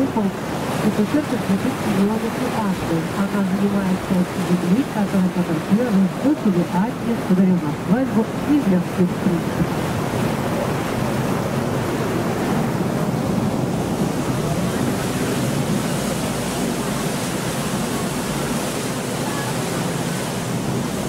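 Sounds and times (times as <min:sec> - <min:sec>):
rushing wind: 0:00.0 - 0:21.0
water noise from moving boat: 0:00.0 - 0:21.0.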